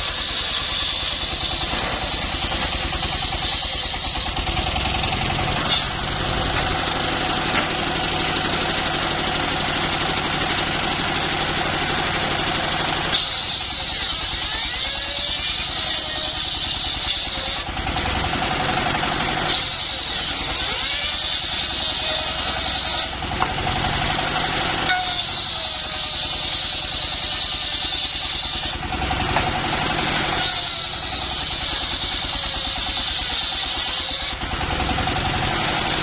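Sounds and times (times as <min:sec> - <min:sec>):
saw blade whining in wood: 0:00.0 - 0:36.0
sawmill engine running: 0:00.0 - 0:36.0.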